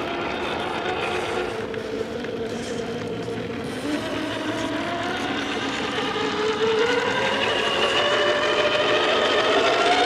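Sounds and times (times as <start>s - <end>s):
electric motor and gears whining: 0.0s - 10.0s.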